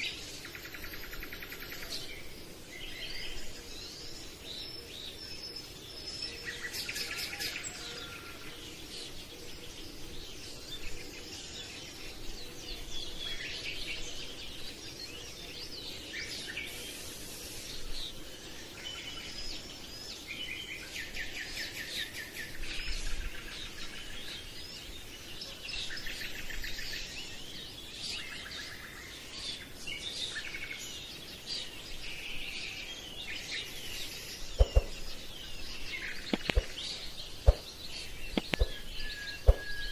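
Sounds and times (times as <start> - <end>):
birds chirping and singing: 0.0 - 39.9
steady low hiss: 0.0 - 39.9.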